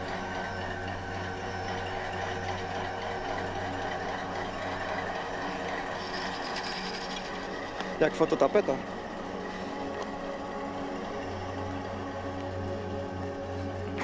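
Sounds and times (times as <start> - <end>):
diesel locomotive engine humming: 0.0 - 14.0.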